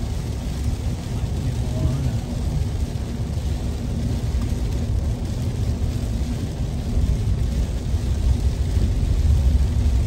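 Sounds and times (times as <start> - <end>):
engine and tyres rumbling on wet road: 0.0 - 10.0.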